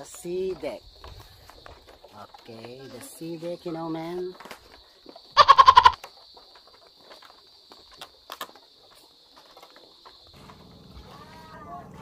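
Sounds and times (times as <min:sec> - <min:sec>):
footsteps on wooden planks: 0:00.0 - 0:11.5.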